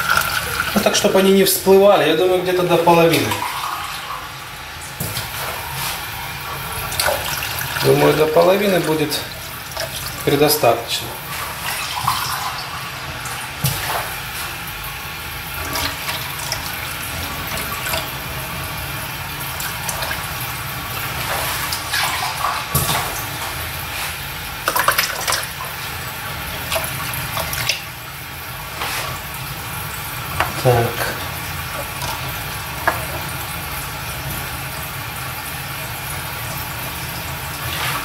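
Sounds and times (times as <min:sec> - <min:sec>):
water pouring and splashing: 0:00.0 - 0:38.0.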